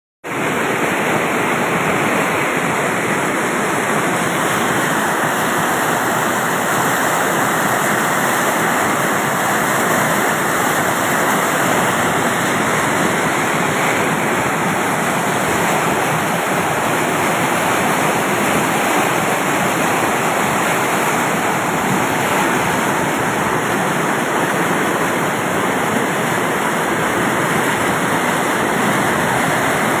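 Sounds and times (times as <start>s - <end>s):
floodwater rushing: 0.2s - 30.0s.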